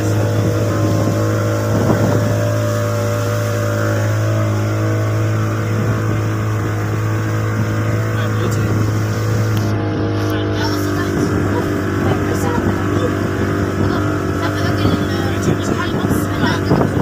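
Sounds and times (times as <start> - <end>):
boat engine droning: 0.0 - 17.0
water rushing past hull: 0.0 - 17.0.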